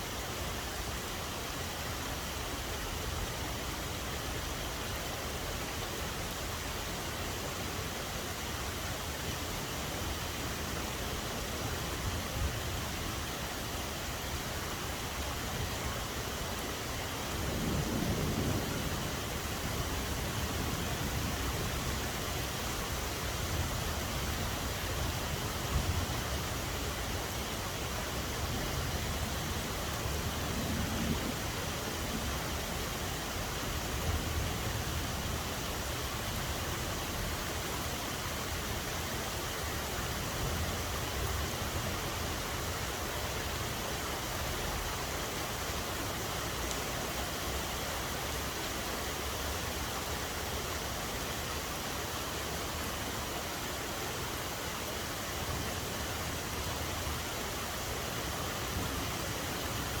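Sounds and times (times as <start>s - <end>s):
rain hissing: 0.0s - 60.0s.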